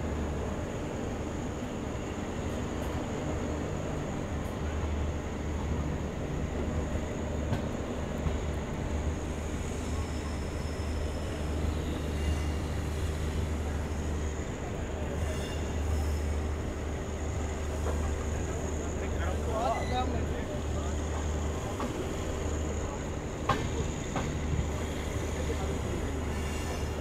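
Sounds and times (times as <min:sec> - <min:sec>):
train rumble from inside coach: 0:00.0 - 0:27.0.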